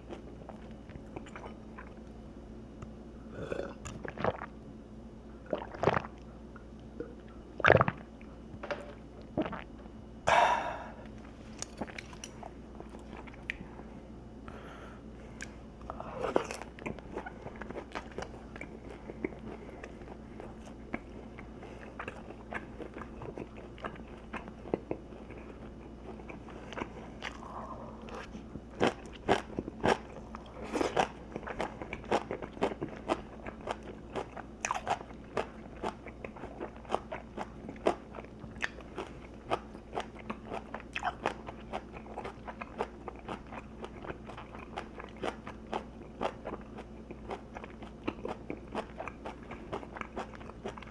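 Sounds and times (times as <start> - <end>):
person chewing crunchy food: 0.0 - 2.0, 3.3 - 4.5, 5.5 - 6.3, 9.2 - 13.8, 15.3 - 50.9.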